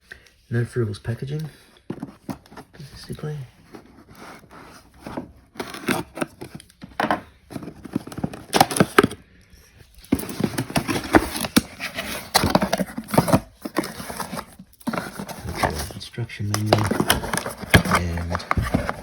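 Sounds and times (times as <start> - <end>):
packaging rustling and scraping: 1.8 - 19.0.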